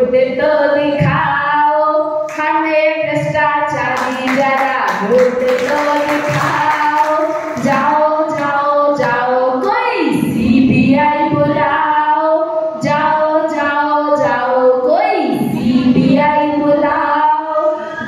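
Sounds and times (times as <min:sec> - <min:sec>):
women singing a song: 0:00.0 - 0:18.0.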